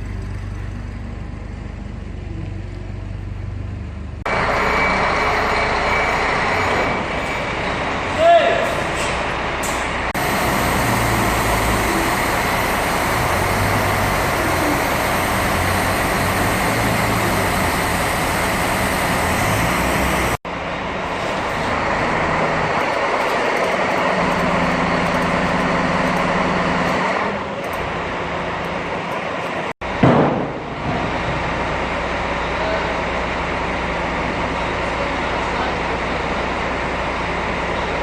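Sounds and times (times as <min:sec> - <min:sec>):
diesel engine running: 0:00.0 - 0:08.2, 0:08.8 - 0:30.0, 0:30.6 - 0:38.0.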